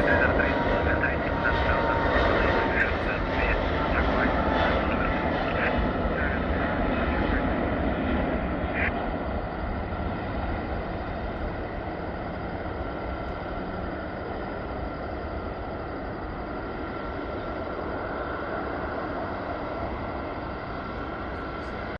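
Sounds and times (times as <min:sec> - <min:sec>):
airplane rushing drone: 0:00.0 - 0:21.9
faint high whine: 0:00.0 - 0:21.9.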